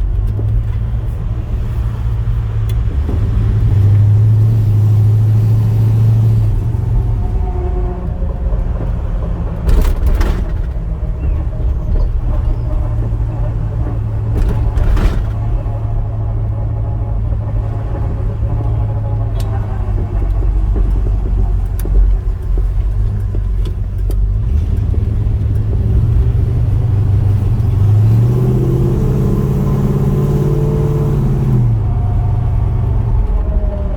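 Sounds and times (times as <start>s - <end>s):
car running drone: 0.0s - 33.9s
faint axle whine: 0.0s - 33.9s.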